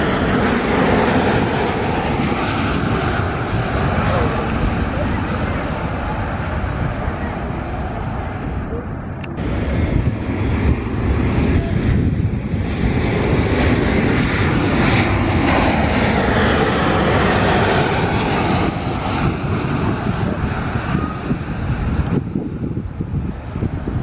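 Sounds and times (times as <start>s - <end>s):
jet engines passing overhead: 0.0s - 24.0s.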